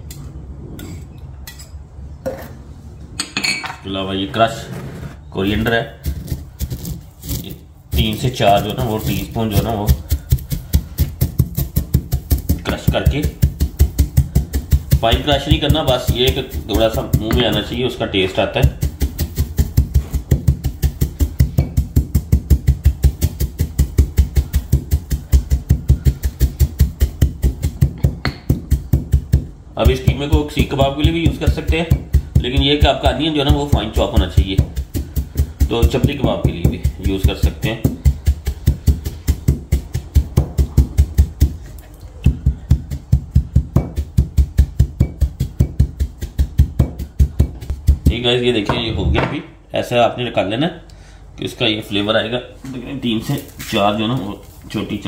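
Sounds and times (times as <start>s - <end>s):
stone pestle pounding seeds: 5.5s - 49.4s, 53.1s - 55.0s.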